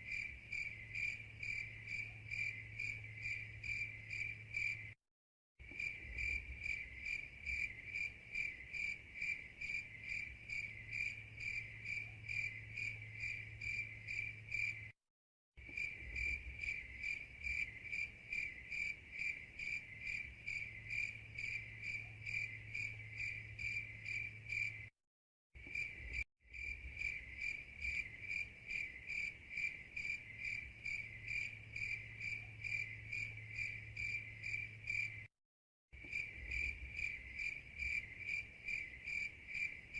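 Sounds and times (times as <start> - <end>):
crickets chirping: 0.0 - 5.0, 5.6 - 15.0, 15.6 - 24.9, 25.6 - 35.3, 36.0 - 39.9.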